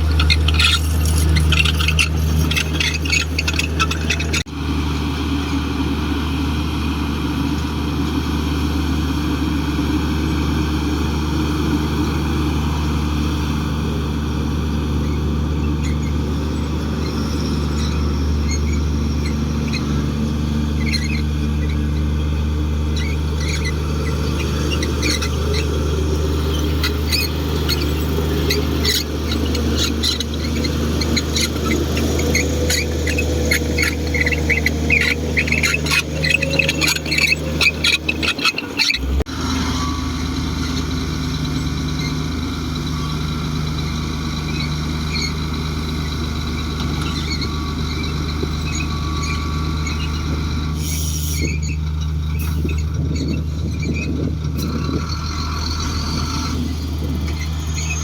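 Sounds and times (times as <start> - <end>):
short high squeals: 0.0 - 4.5, 15.0 - 58.0
bulldozer diesel engine running: 0.0 - 58.0.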